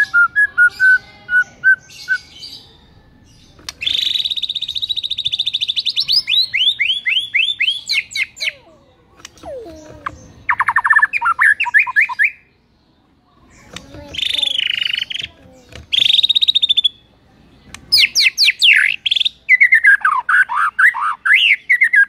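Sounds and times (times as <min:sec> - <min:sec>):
songbird singing varied phrases: 0:00.0 - 0:22.0.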